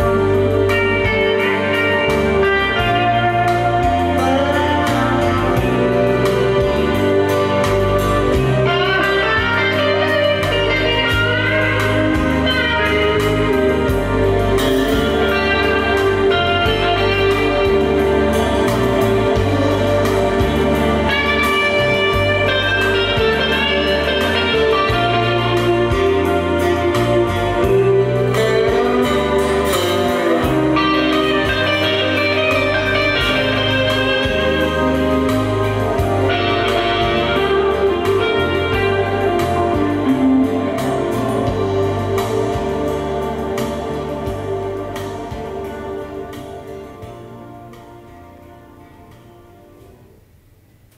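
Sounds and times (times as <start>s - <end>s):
music with sliding melody and bass: 0.0s - 50.9s.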